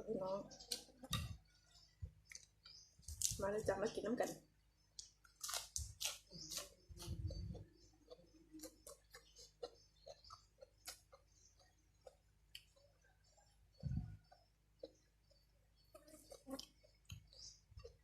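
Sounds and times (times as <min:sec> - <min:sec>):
mouth clicks and smacks eating: 0:00.6 - 0:03.4, 0:04.9 - 0:18.0.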